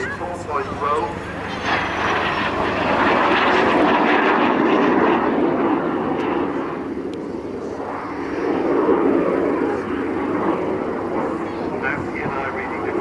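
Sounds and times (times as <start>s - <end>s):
aircraft engine flying past: 0.0s - 13.0s.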